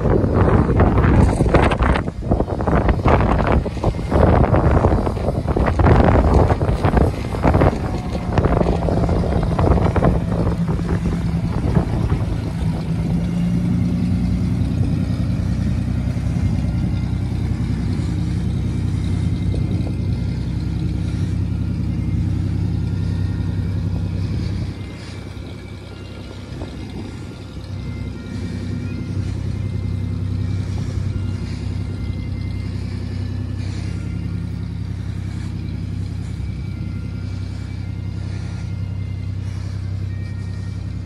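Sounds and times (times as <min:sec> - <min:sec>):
fire truck engine running: 0:00.0 - 0:41.0
wind buffeting microphone: 0:00.0 - 0:41.0.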